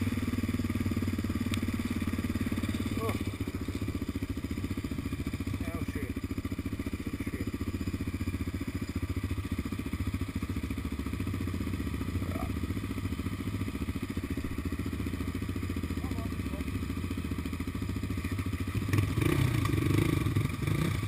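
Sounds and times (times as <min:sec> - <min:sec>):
quad engine idling: 0:00.0 - 0:21.0.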